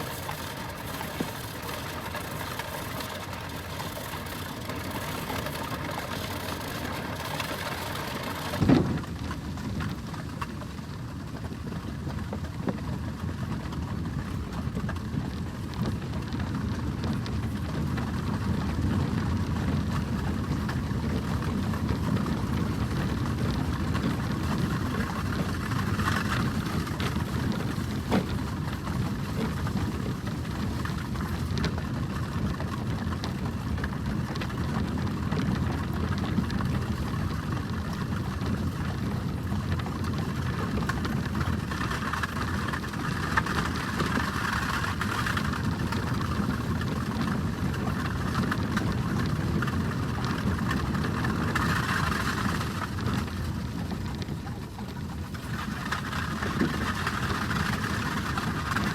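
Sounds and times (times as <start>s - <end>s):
carriage wheels rumbling: 0.0s - 58.9s
hooves clattering: 0.0s - 58.9s.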